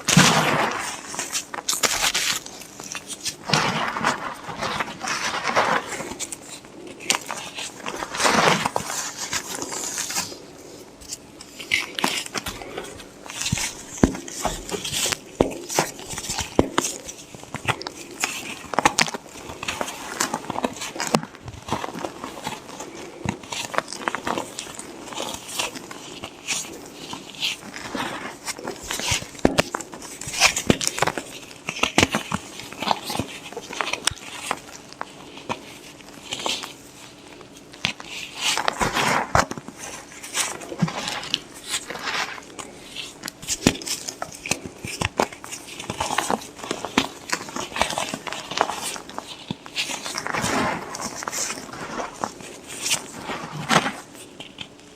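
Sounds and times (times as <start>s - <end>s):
chalk being crushed by hand: 0.0s - 54.9s.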